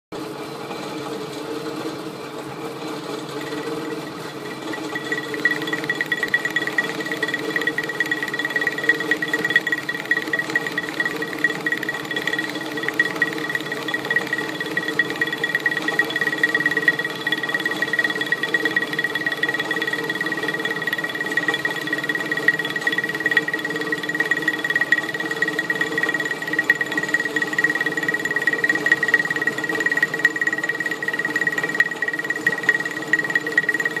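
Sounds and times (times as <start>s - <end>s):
milling machine spindle hum: 2.4s - 34.0s.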